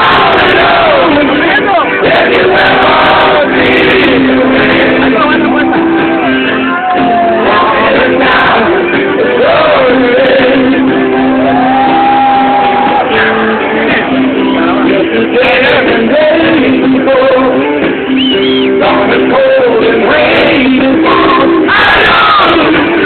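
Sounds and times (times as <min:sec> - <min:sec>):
lead singer singing: 0:00.0 - 0:23.0
rock band playing: 0:00.0 - 0:23.0.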